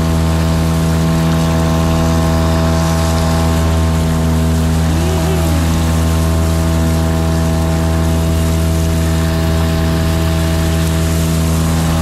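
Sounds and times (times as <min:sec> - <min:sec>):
boat motor running: 0:00.0 - 0:12.0
water rushing: 0:00.0 - 0:12.0
wind: 0:00.0 - 0:12.0.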